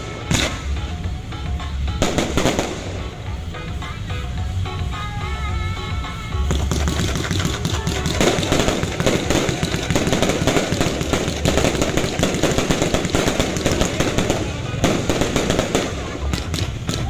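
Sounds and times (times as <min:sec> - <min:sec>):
fireworks cracking and banging: 0:00.0 - 0:17.0.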